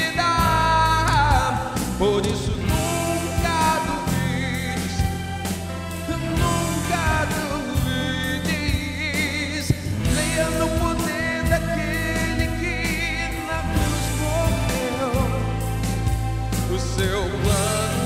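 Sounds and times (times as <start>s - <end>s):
instrumental accompaniment: 0.0s - 18.0s
man singing gospel song: 0.0s - 18.0s.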